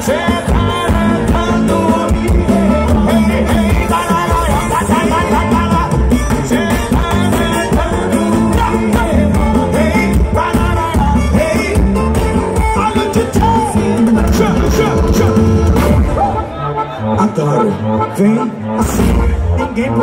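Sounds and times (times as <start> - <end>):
live band playing dance music: 0.0 - 20.0
person singing: 0.0 - 20.0.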